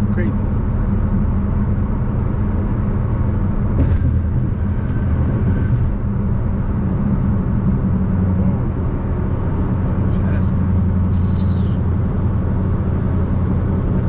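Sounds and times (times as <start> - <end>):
car engine cruising: 0.0 - 14.0
road and tyre noise: 0.0 - 14.0.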